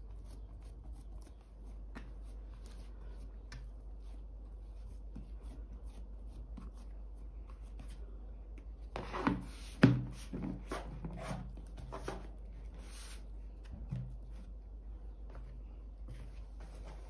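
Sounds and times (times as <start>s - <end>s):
hands rustling on dough: 0.0s - 17.0s.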